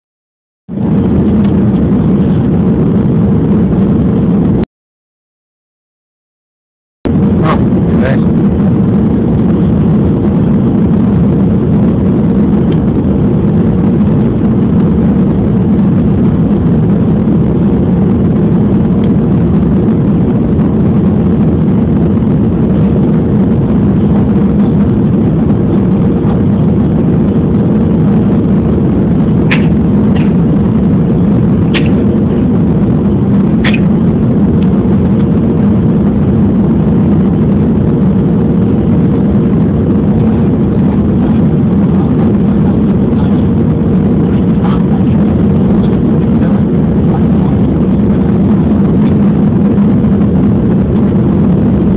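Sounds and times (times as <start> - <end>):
airliner cabin engine drone: 0.7 - 4.6, 7.1 - 51.9.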